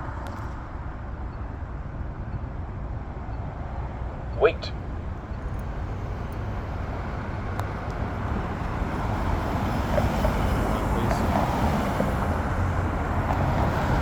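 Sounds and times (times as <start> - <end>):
rumble of passing vehicles: 0.0 - 14.0.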